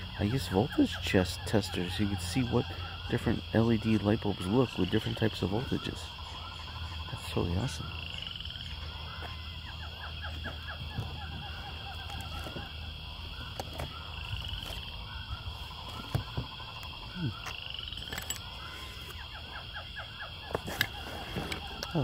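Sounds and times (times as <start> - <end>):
animal chirping calls: 0.0 - 22.0.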